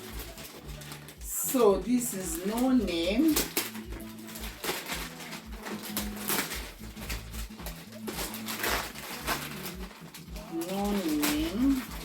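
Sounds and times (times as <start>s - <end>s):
gift wrapping rustling and crinkling: 0.0s - 12.0s.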